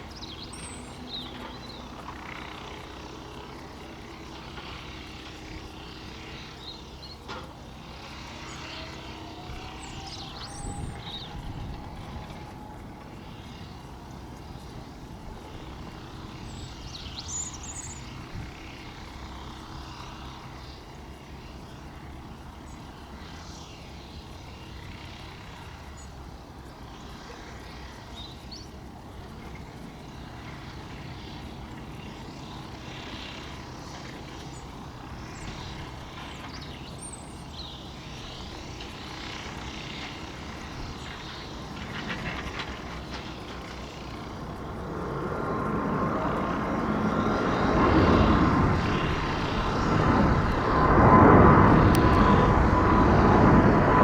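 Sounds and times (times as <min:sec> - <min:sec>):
distant jet engines rumbling: 0:00.0 - 0:54.0.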